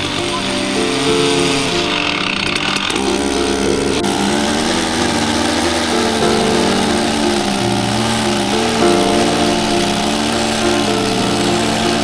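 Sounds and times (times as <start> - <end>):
background music: 0.0 - 12.0
chainsaw cutting log: 0.0 - 12.0.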